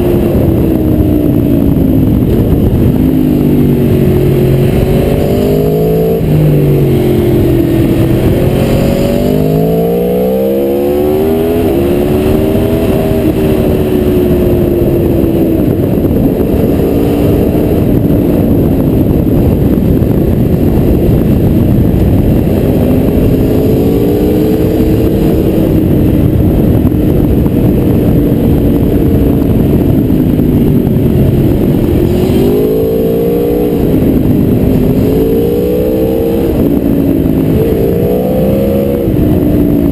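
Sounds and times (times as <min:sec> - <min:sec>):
motorcycle engine revving: 0:00.0 - 0:39.9
wind rushing over microphone: 0:00.0 - 0:39.9.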